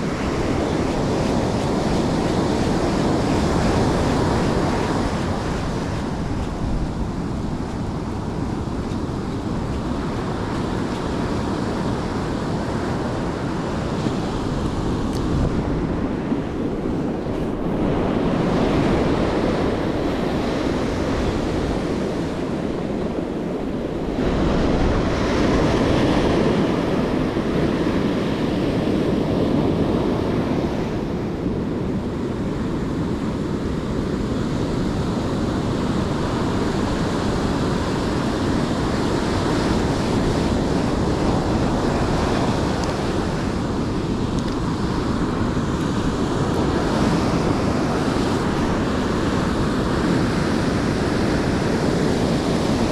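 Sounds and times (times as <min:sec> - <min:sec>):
ocean surf breaking: 0:00.0 - 0:52.9
wind rumbling on microphone: 0:00.0 - 0:52.9.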